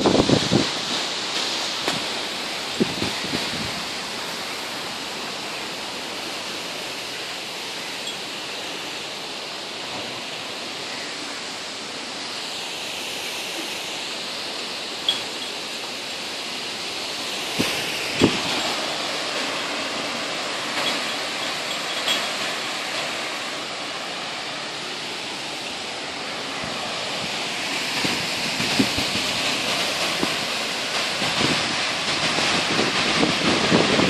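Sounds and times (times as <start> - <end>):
rain and wind: 0.0 - 34.0.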